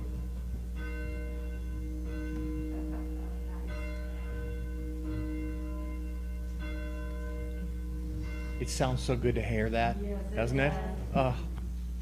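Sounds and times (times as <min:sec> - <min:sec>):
church bell tolling: 0:00.0 - 0:11.5.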